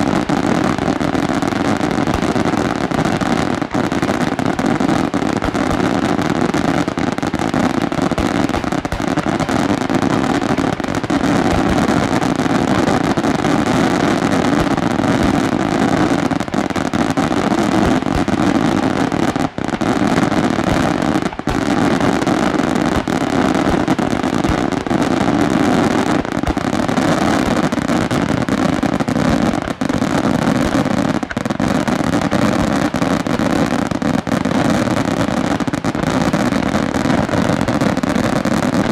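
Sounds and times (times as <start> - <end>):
fireworks barrage with crackle: 0.0 - 38.9.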